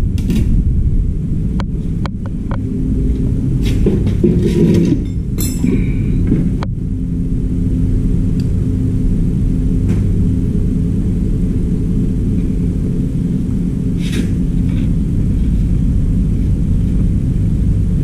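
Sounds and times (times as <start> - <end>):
loud low machine hum: 0.0 - 18.0.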